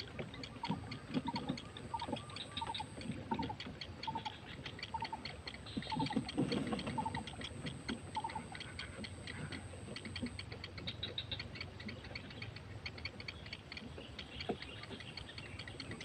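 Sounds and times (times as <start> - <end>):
heron nestlings ticking: 0.0 - 16.0.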